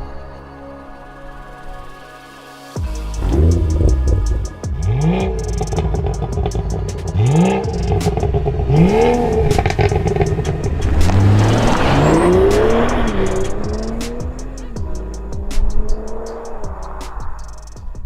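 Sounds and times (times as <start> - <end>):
car engine revving: 3.2 - 17.8.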